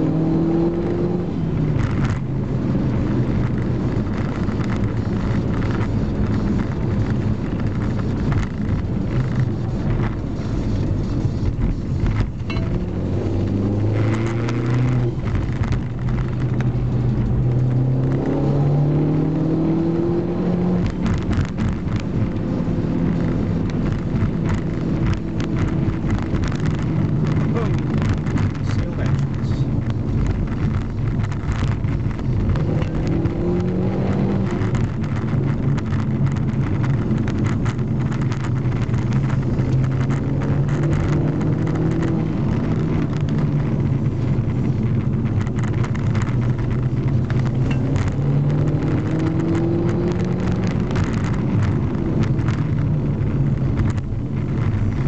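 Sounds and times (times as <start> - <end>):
car engine revving: 0.0 - 55.0
tyre and road rumble: 0.0 - 55.0.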